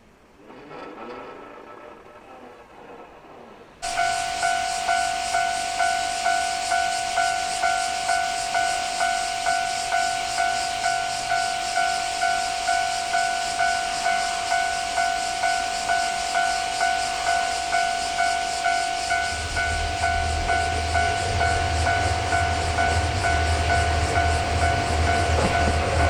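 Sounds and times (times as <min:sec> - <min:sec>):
level crossing alarm bell: 0:03.8 - 0:26.0.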